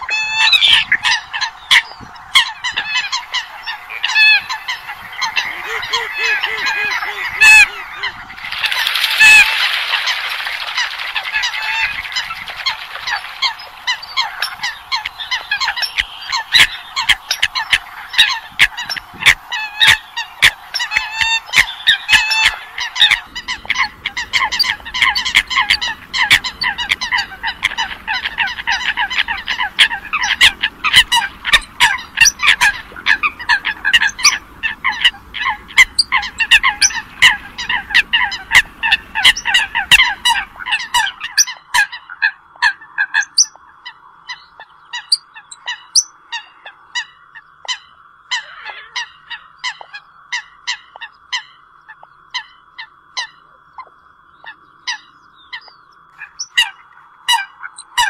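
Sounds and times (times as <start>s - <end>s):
coots calling: 0.0s - 58.0s.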